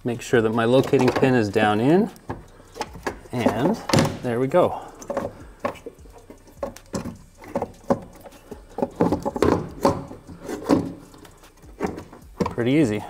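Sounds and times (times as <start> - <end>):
metal and plastic parts tapping: 0.4 - 13.0.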